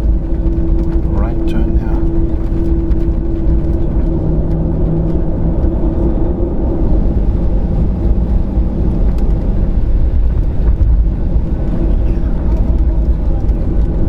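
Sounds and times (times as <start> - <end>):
airplane cabin engine rumble: 0.0 - 14.0
engine hum: 0.0 - 14.0.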